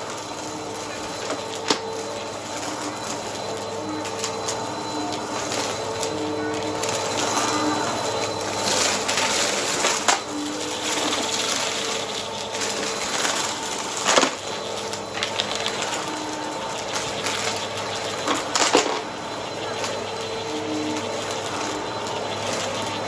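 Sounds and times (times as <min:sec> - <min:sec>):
debris crunching in vacuum: 0:00.0 - 0:23.0
vacuum cleaner running: 0:00.0 - 0:23.0.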